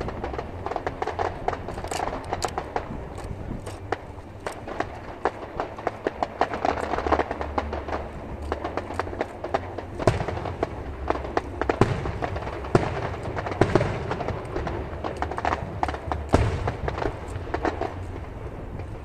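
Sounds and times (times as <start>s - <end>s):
fireworks bursting with sharp bangs: 0.0s - 19.0s
steady low rumble: 0.0s - 19.0s.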